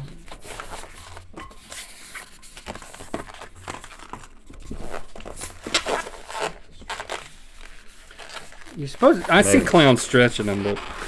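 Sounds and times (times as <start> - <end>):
balloons squeaking and rubbing: 0.0 - 11.0.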